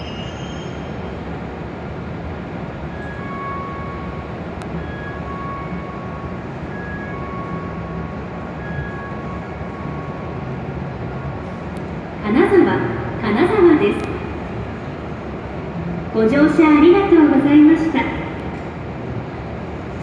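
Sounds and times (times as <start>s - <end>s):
train and platform noise: 0.0s - 20.0s.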